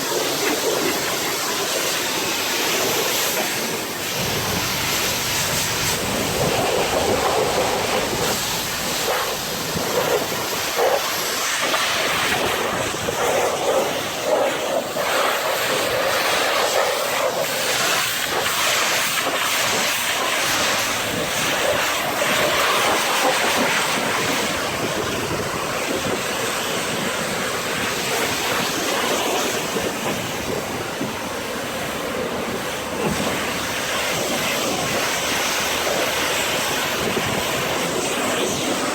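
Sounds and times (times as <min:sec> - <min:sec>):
pressure washer spraying water: 0:00.0 - 0:30.7, 0:31.5 - 0:38.9.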